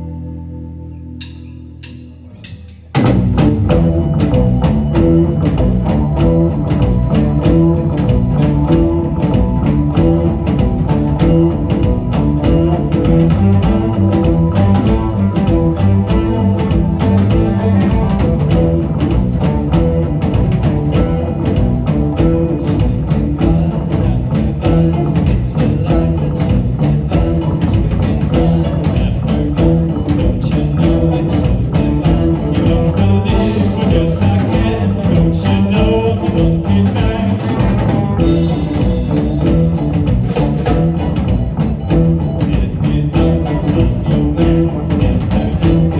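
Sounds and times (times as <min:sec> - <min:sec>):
electric guitars: 0:00.0 - 0:45.9
drum kit beat: 0:01.2 - 0:45.9.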